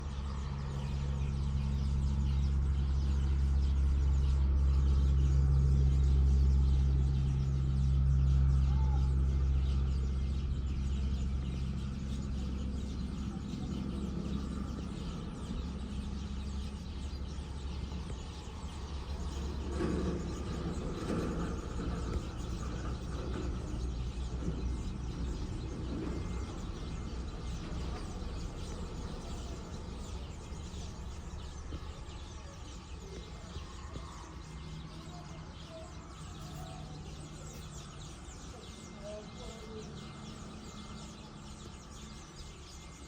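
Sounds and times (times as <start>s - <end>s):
birds chirping faintly: 0.0s - 43.0s
low steady hum: 0.0s - 43.0s.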